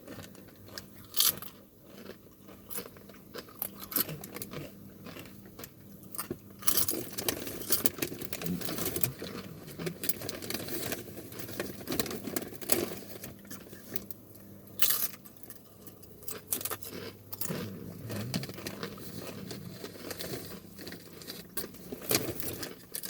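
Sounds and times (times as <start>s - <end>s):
crunchy food being chewed: 0.0s - 23.0s.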